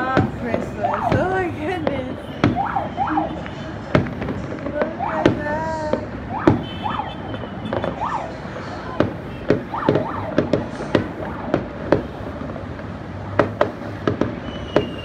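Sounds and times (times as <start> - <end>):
distant fireworks bangs and pops: 0.0 - 15.0.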